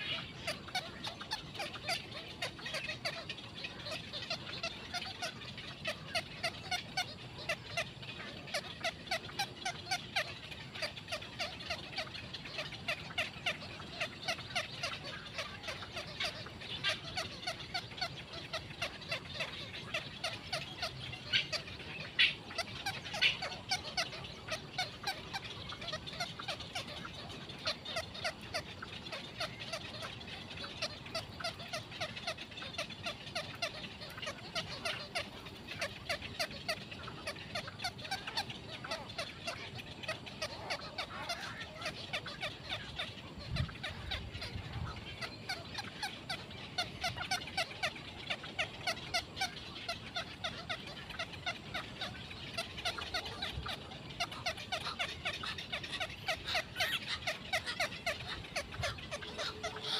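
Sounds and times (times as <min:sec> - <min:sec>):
birds chattering: 0:00.0 - 0:59.9.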